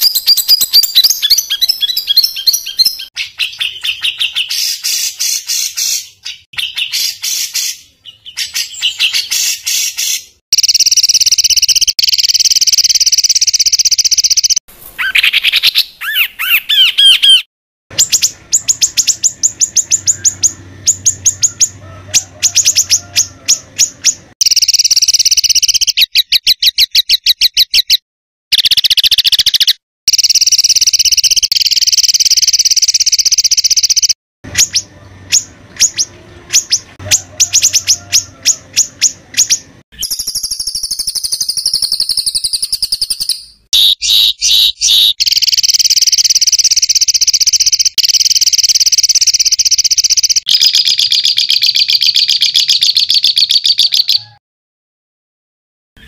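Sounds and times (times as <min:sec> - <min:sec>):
songbird singing harsh song: 0:00.0 - 0:28.0, 0:28.6 - 0:54.4.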